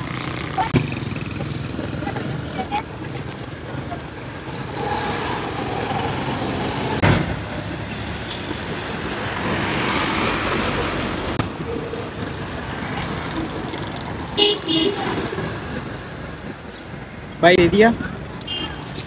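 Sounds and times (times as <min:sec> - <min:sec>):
road traffic roar: 0:00.0 - 0:19.0.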